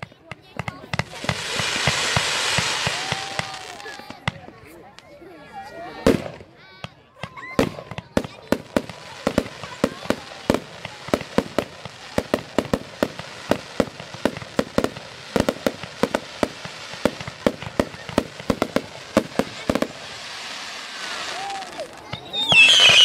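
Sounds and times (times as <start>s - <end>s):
fireworks bangs: 0.0s - 5.0s, 5.9s - 23.0s.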